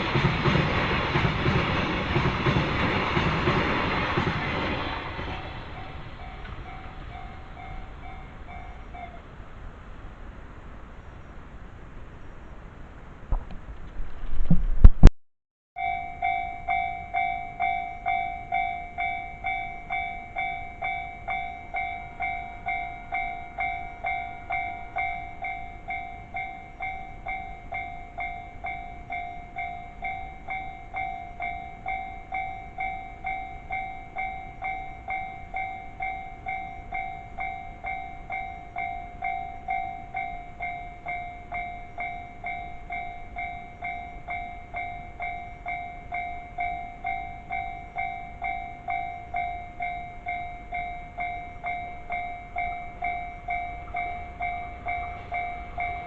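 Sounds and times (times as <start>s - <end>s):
level crossing warning bell ringing: 1.2s - 9.4s, 15.8s - 56.0s.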